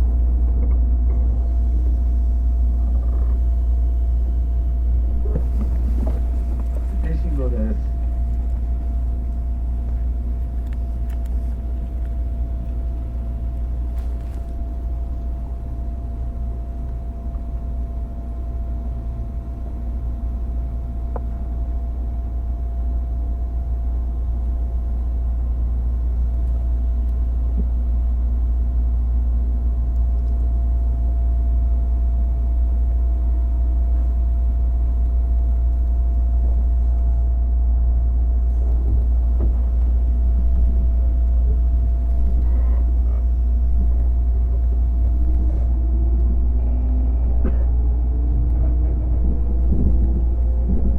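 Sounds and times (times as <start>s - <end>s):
electric train rumbling: 0.0s - 50.9s
faint constant hum: 0.0s - 50.9s.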